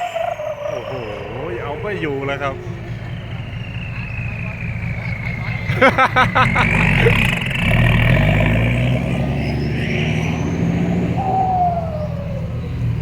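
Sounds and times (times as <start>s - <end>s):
diesel truck engine revving: 0.0s - 13.0s
falling whine: 0.0s - 13.0s
high whine: 0.0s - 13.0s.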